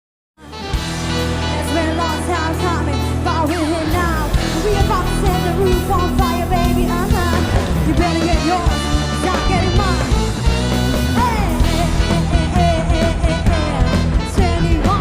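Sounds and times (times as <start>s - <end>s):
live band playing pop: 0.4s - 15.0s.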